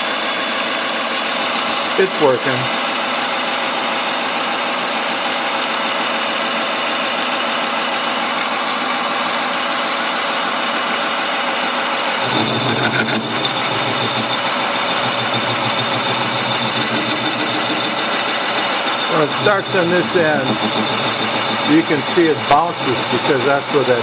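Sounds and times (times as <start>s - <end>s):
lathe whirring hum: 0.0s - 24.0s.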